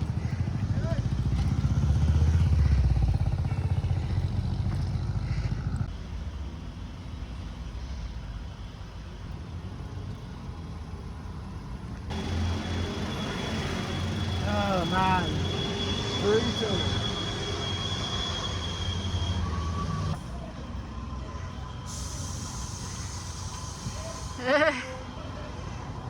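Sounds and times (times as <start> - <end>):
rumble of traffic: 0.0 - 26.0
vehicle engine running: 0.0 - 26.0.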